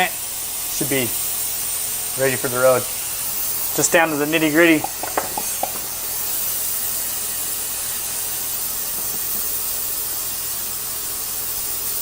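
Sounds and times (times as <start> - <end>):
ultrasonic cleaner hissing: 0.0 - 12.0.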